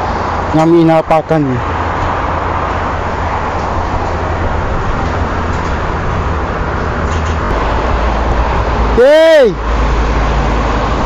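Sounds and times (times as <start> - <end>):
highway traffic noise: 0.0 - 11.0.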